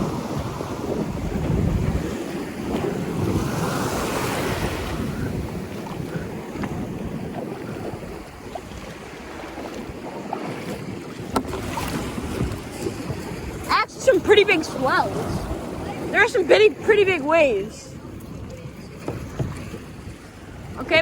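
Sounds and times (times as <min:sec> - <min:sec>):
waves on open water: 0:00.0 - 0:21.0
wind buffeting microphone: 0:00.0 - 0:21.0.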